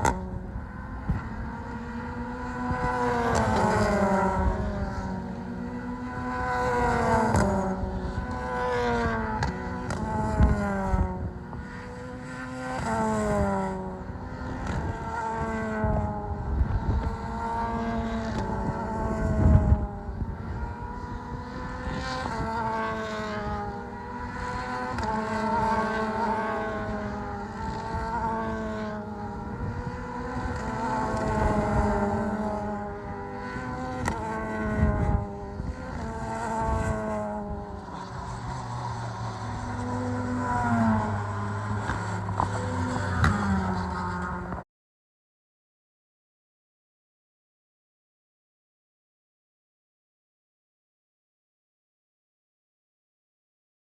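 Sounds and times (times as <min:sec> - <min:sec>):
race car engines passing: 0:00.0 - 0:44.6.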